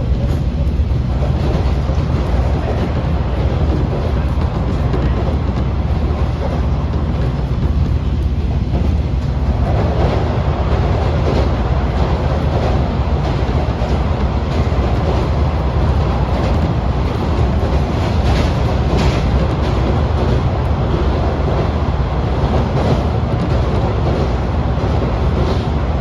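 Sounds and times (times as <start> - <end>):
railcar engine and wheel rumble: 0.0 - 26.0
wheels clicking over rail joints: 0.0 - 26.0.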